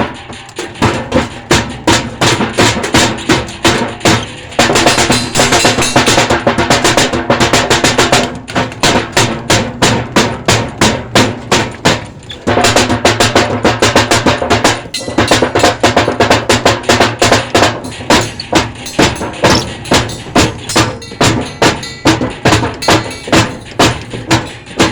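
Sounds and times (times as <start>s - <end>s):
fast drumming: 0.0s - 24.9s
music with steady bass line: 0.0s - 24.9s.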